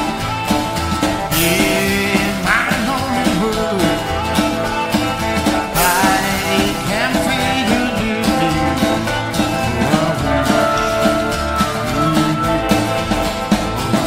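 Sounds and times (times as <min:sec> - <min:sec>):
amplified harmonica bending notes: 0:00.0 - 0:14.0
rock and roll band playing: 0:00.0 - 0:14.0.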